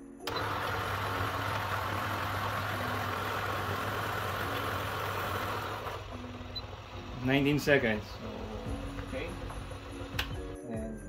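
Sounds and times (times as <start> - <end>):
coffee grinder grinding beans: 0.3 - 10.5.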